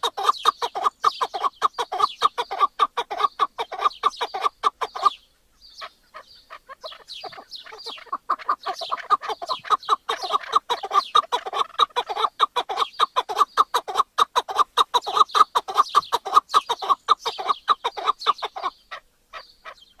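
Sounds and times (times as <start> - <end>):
partridge clucking calls: 0.0 - 20.0.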